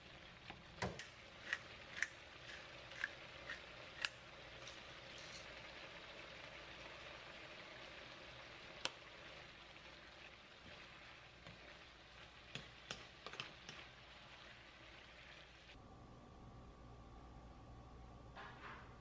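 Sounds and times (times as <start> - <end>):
food sizzling in a pan: 0.0 - 15.8.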